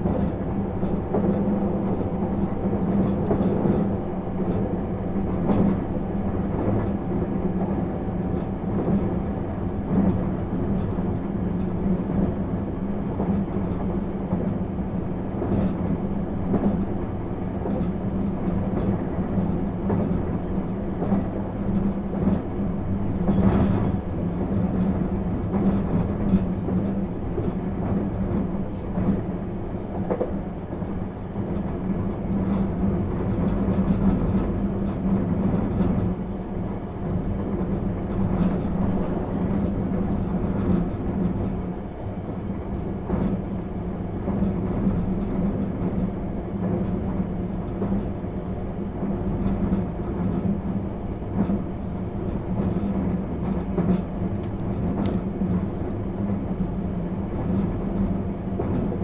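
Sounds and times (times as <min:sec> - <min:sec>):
train car rumbling on track: 0:00.0 - 0:59.0.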